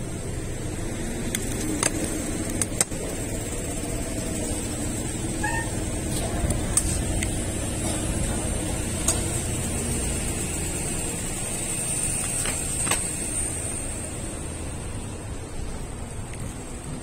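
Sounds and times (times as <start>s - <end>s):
thin high whine: 0.0s - 16.3s
low street rumble: 0.0s - 17.0s.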